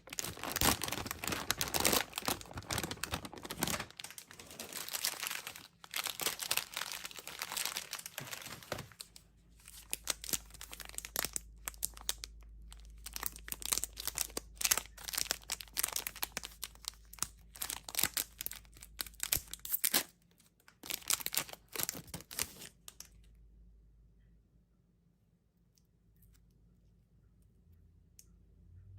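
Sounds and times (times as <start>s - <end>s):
plastic packaging crinkling and tearing: 0.0s - 23.2s.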